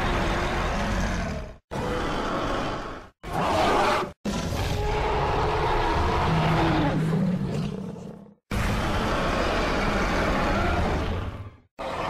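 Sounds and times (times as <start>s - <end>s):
dinosaur roaring: 0.0s - 12.0s.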